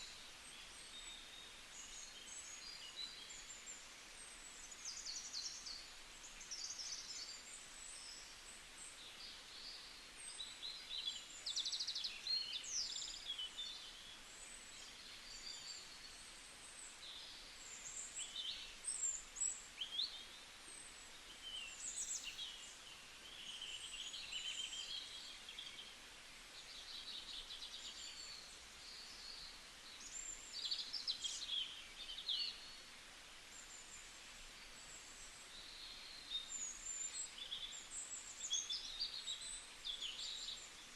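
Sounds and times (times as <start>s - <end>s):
faint steady background hiss: 0.0s - 40.9s.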